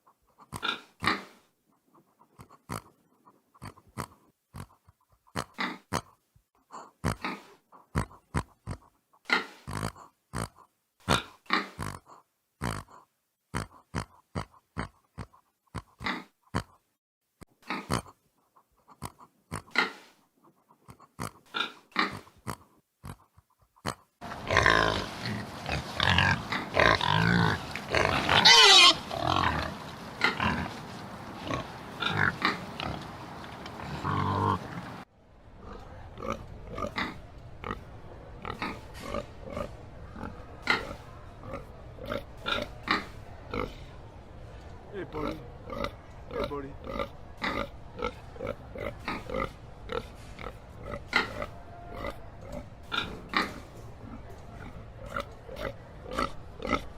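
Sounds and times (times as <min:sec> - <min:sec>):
background noise: 0:00.0 - 0:56.9
pigs grunting: 0:00.4 - 0:01.4, 0:02.2 - 0:03.0, 0:03.6 - 0:16.8, 0:17.6 - 0:18.2, 0:18.9 - 0:20.2, 0:20.8 - 0:44.1, 0:44.8 - 0:56.9.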